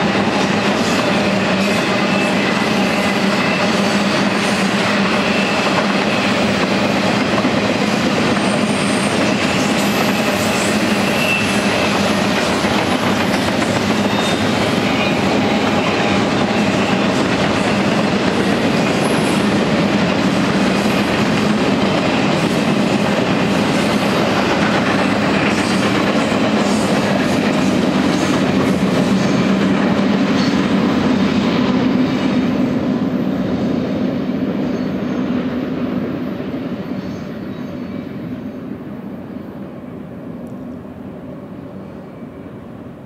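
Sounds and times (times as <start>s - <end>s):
train wheels clattering on rails: 0.0s - 38.4s.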